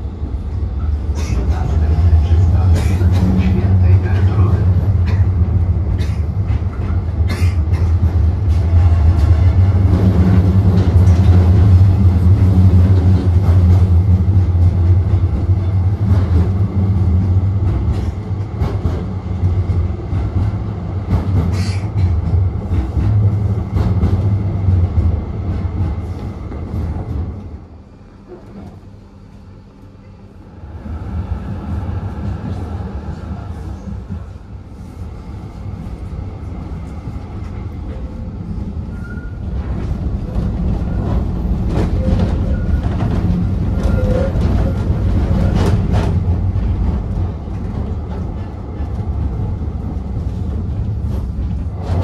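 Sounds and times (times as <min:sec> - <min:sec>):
tram rumbling on rails: 0:00.0 - 0:52.0.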